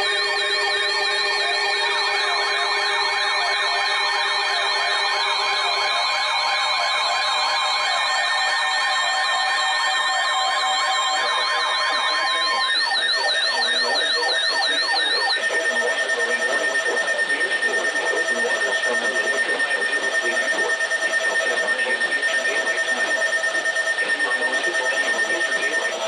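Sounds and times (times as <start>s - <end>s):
rapid pulsing beeps: 0.0s - 26.0s
siren-like warble: 0.0s - 26.0s
steady high tone: 0.0s - 26.0s.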